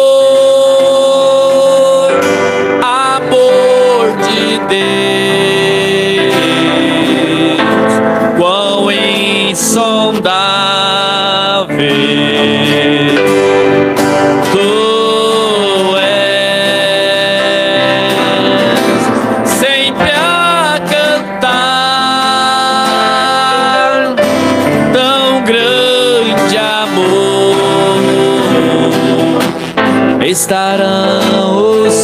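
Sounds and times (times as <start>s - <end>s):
instrumental accompaniment: 0.0s - 32.0s
man singing a slow hymn: 0.0s - 32.0s.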